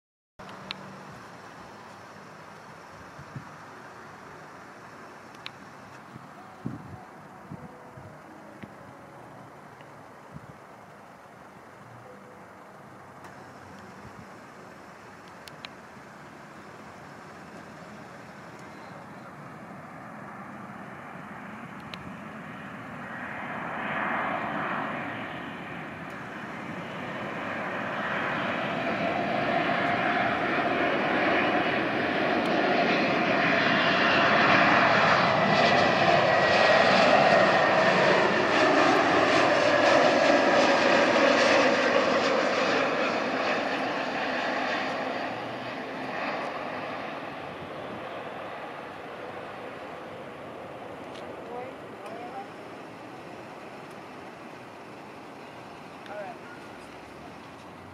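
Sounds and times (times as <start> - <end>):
jet airliner flying past: 0.5 - 57.9.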